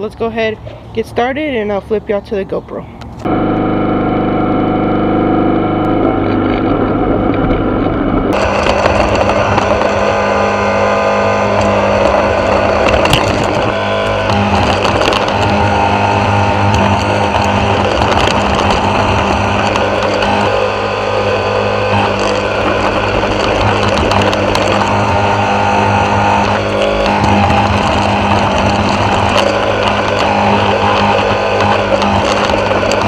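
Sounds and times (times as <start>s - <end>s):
lawn mower engine running: 3.0s - 33.0s.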